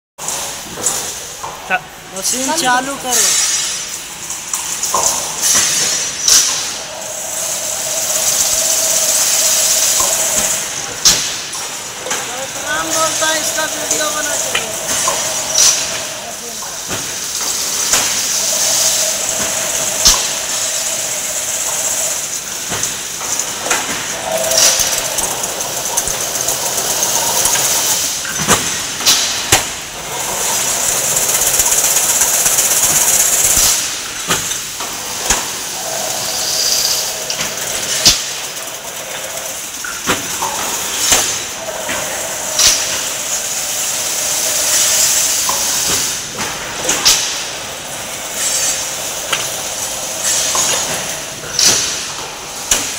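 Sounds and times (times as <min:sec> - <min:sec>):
weaving machine hissing whir: 0:05.4 - 0:52.9.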